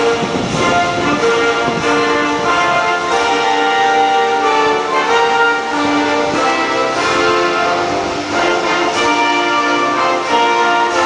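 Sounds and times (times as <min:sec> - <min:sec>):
orchestral music with long chords: 0:00.0 - 0:11.0.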